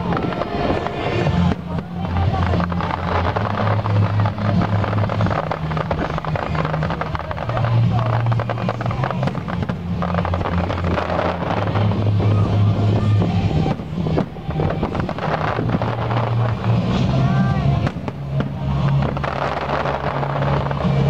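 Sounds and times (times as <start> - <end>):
fireworks popping and crackling: 0.0 - 21.0
music with deep bass: 0.0 - 21.0.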